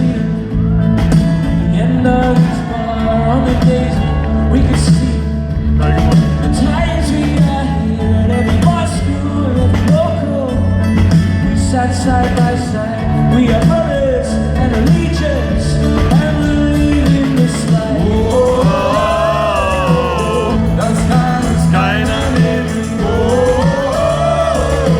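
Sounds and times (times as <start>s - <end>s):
live pop-rock band: 0.0s - 24.9s
man singing: 0.0s - 24.9s.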